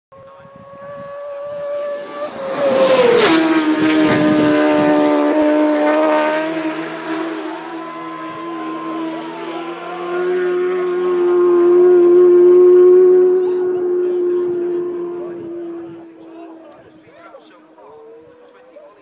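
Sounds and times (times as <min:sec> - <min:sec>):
racing motorcycle passing at speed: 0:00.1 - 0:19.0.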